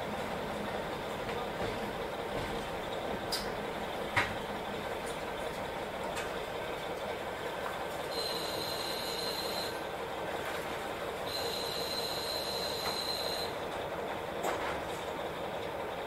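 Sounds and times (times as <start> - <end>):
wheels rumbling on rail: 0.0 - 16.0.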